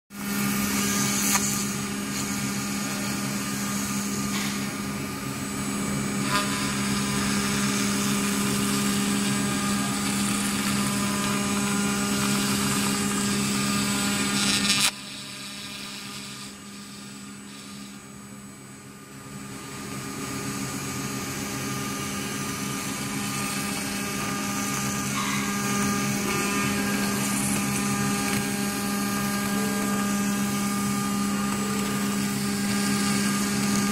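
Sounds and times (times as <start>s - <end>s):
end mill cutting metal: 0.2s - 18.1s, 20.7s - 33.9s
spindle high whine: 0.2s - 33.9s.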